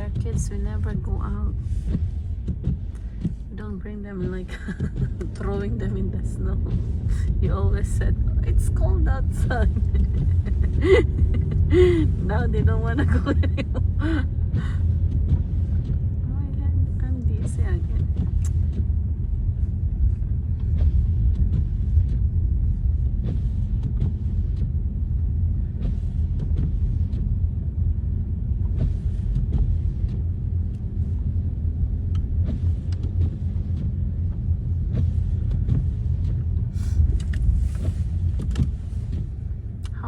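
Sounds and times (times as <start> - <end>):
car engine and tyre rumble: 0.0 - 40.0.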